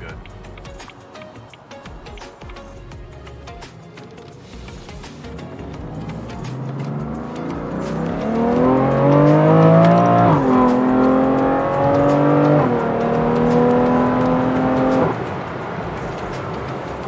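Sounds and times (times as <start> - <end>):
car engine accelerating: 2.6 - 17.0.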